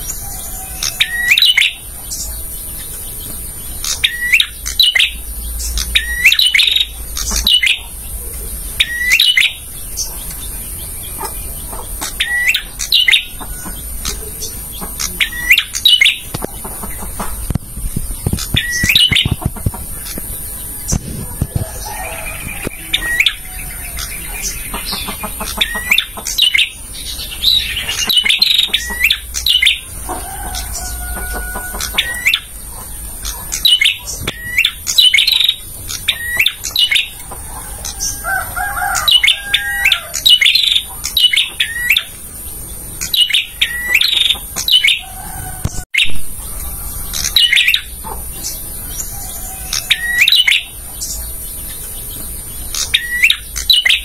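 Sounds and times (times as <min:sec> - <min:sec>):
warbler chirping: 0:00.0 - 0:54.0.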